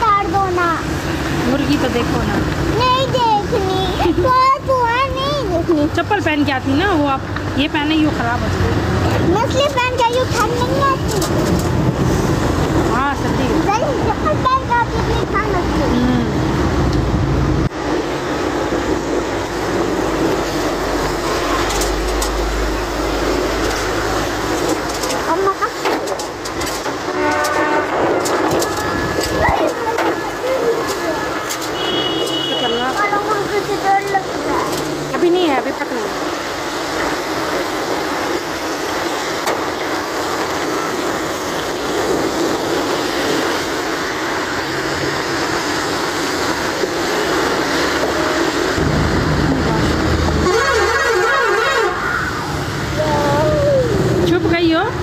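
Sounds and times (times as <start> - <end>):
rain: 0.0 - 55.0
traffic on a wet road: 0.0 - 55.0.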